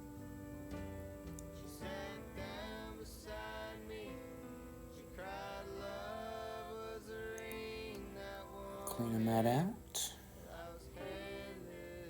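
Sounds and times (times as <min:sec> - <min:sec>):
song with sung vocal: 0:00.7 - 0:12.0.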